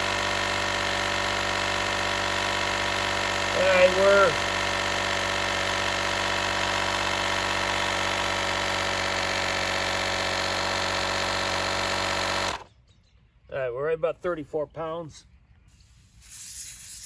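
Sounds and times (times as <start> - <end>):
air compressor buzzing hum: 0.0 - 12.7, 15.7 - 17.0.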